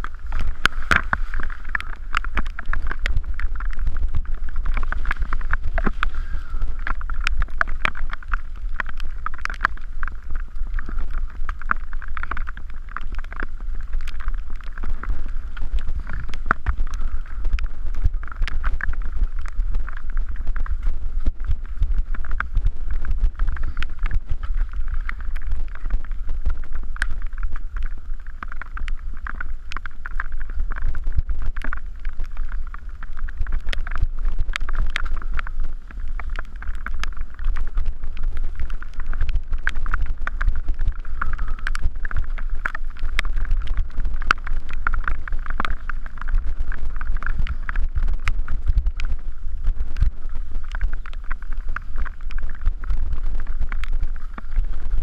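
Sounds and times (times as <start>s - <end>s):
bike rattling over rough ground: 0.0s - 55.0s
wind rushing over microphone: 0.0s - 55.0s.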